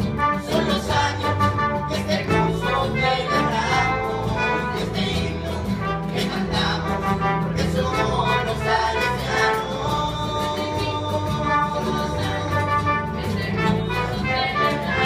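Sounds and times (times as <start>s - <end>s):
horn section playing: 0.0s - 10.0s, 11.2s - 15.0s
acoustic guitar: 0.0s - 15.0s
electric bass: 0.0s - 15.0s.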